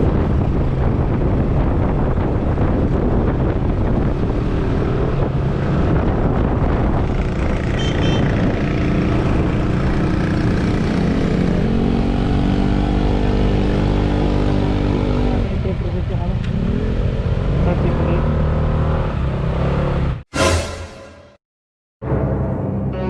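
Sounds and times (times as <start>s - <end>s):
road and wind rumble: 0.0s - 20.3s.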